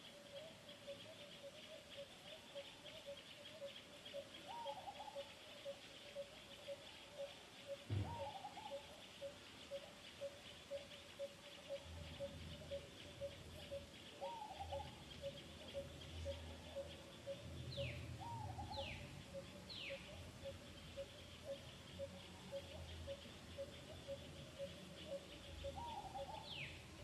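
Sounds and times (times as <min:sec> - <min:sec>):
bird calls: 0:00.0 - 0:27.0
faint steady high hiss: 0:00.0 - 0:27.0.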